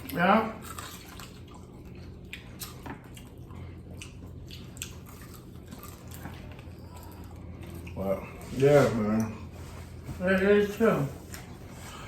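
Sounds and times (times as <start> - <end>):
low steady hum: 0.0 - 12.0
people chewing food: 0.0 - 12.0.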